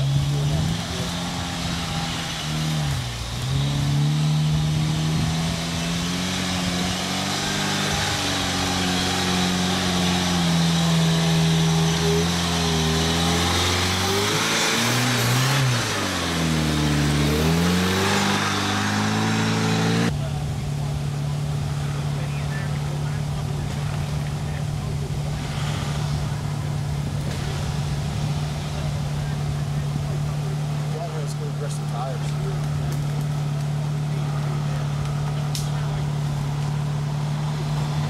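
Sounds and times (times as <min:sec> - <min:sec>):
off-road vehicle engine under load: 0:00.0 - 0:38.0.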